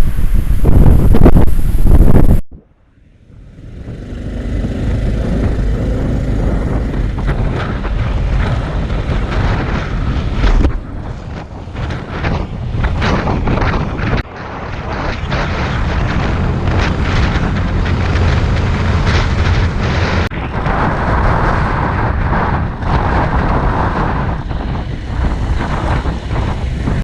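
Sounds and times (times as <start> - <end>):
wind buffeting microphone: 0.0 - 2.4, 3.2 - 27.0
low rumble: 0.0 - 27.0.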